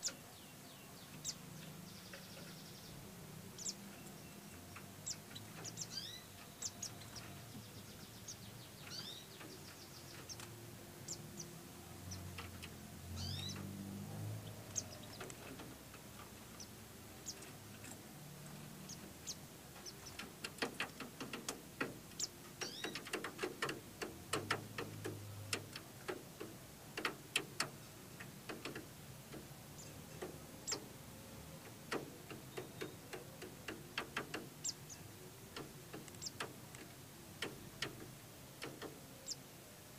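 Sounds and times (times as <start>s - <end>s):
birds chirping and clicking: 0.0s - 39.7s.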